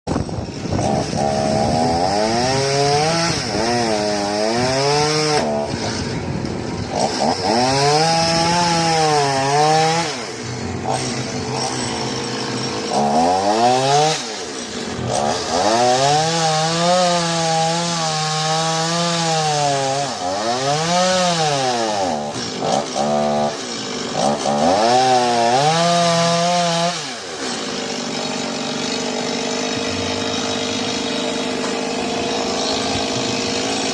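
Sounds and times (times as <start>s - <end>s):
chainsaw engine revving: 0.1s - 33.9s
chainsaw idling: 0.1s - 33.9s.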